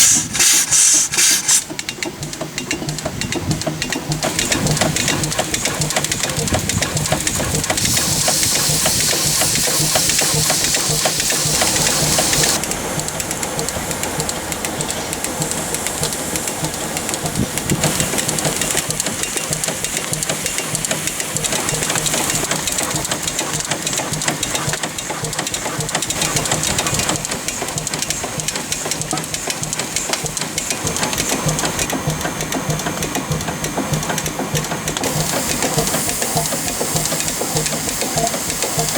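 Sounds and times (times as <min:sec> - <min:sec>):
rapid mechanical clatter: 0:00.0 - 0:38.9
steam hissing: 0:00.0 - 0:38.9.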